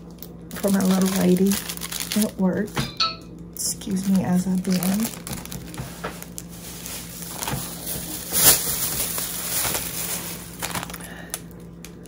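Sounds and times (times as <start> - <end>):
shopping bag rustling and crinkling: 0.0 - 2.8, 3.8 - 11.4.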